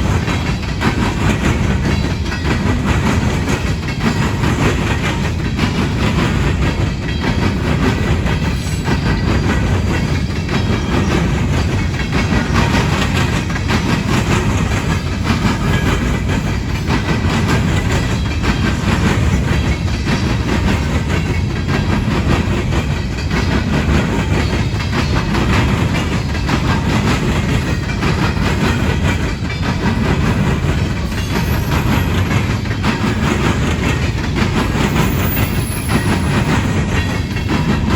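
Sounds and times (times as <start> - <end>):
train cars rumbling past: 0.0 - 37.9
wheels clacking over rail joints: 0.0 - 37.9.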